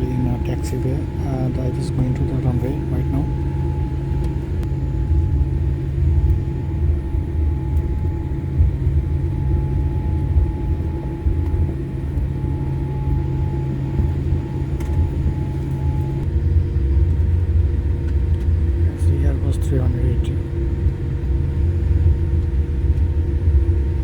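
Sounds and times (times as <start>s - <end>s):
aircraft cabin low rumble: 0.0s - 24.0s
steady cabin hum: 0.0s - 24.0s.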